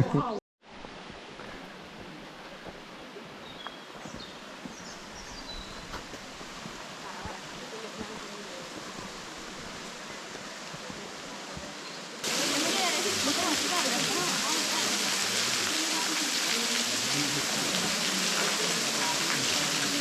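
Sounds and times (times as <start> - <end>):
running water: 0.2 - 20.0.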